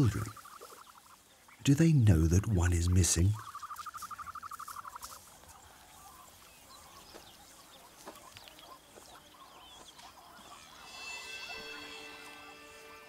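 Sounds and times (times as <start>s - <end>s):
faint chirps: 0.0s - 13.0s.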